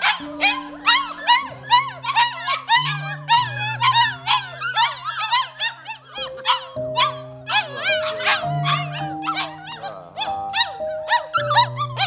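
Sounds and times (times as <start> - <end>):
background music with low notes: 0.0 - 12.0
puppies whining and yipping: 0.0 - 12.0.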